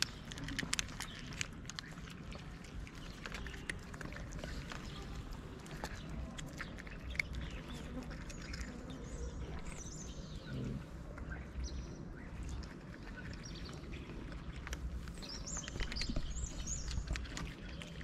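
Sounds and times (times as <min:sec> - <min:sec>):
birds chirping: 0:00.0 - 0:18.0
cats chewing dry kibble: 0:00.0 - 0:18.0.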